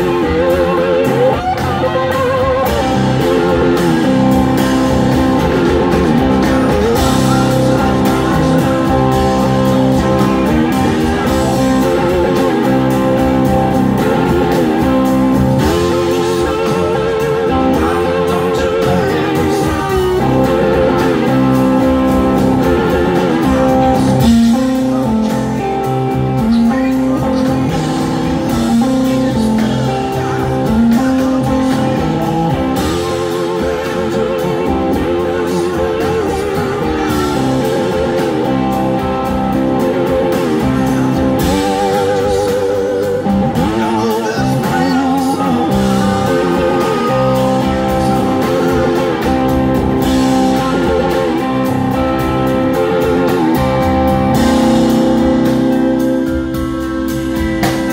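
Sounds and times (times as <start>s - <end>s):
man singing: 0.0s - 56.0s
blues-rock band playing: 0.0s - 57.9s
electric guitar lead: 0.0s - 57.9s.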